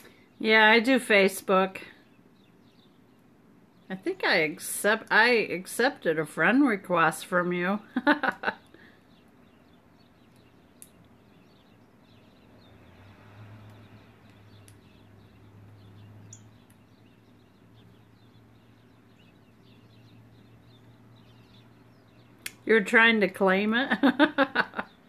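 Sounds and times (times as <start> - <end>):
soft bird chirps: 0.0 - 25.0.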